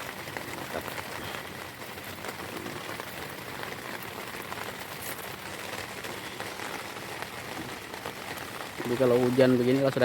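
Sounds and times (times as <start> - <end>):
heavy rain on a tent: 0.0 - 10.0.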